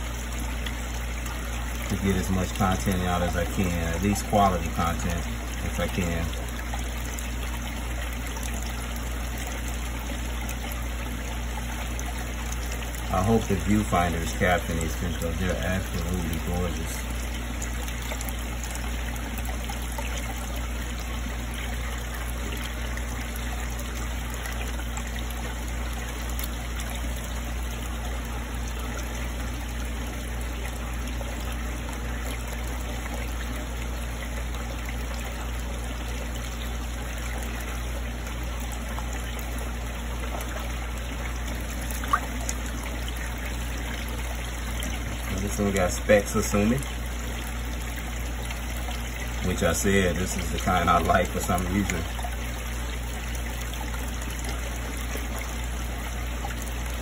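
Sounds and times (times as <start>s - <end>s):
pump hum: 0.0s - 57.0s
water trickling in fish tank: 0.0s - 57.0s.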